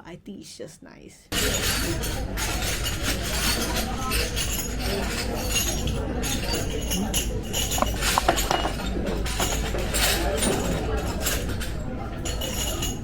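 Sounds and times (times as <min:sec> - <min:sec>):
restaurant hubbub: 0:00.0 - 0:13.0
dishes and cutlery clinking: 0:01.3 - 0:13.0.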